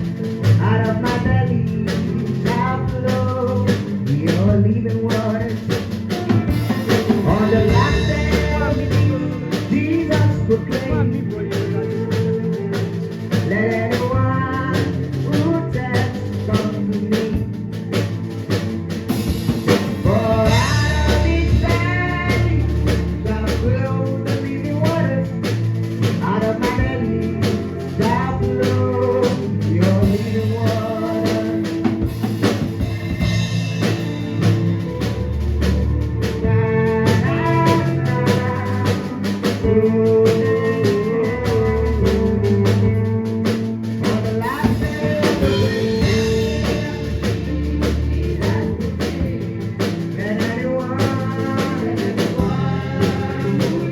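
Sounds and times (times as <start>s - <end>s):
melodic lead line: 0.0s - 42.7s, 44.2s - 53.9s
live band playing gospel groove: 0.0s - 53.9s.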